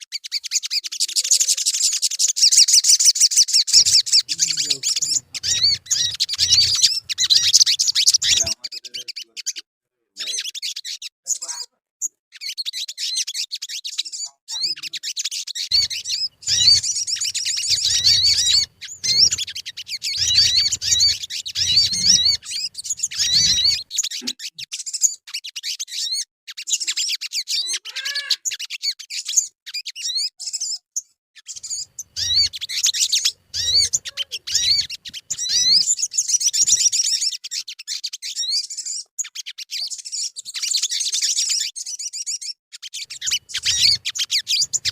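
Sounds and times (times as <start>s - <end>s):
songbird twittering: 0.1s - 9.6s, 12.4s - 26.1s, 31.4s - 39.1s, 39.7s - 44.9s.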